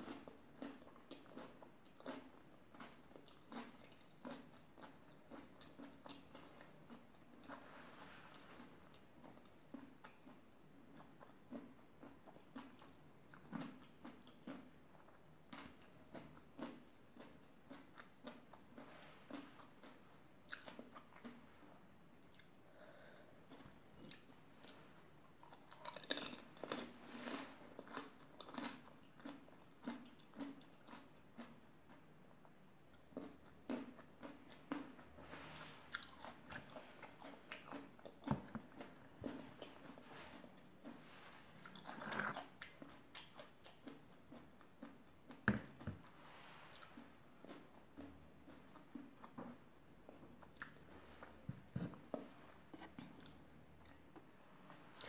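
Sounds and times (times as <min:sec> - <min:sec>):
crunching and chewing: 0:00.0 - 0:22.6, 0:23.5 - 0:55.0.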